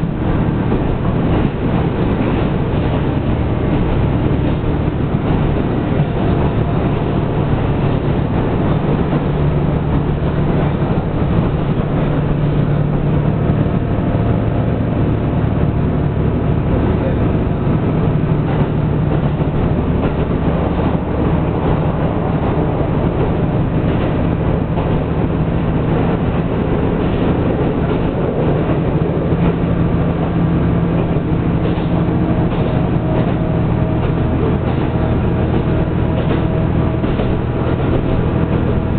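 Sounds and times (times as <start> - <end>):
low engine drone: 0.0 - 38.9
wheels on rails: 0.0 - 38.9.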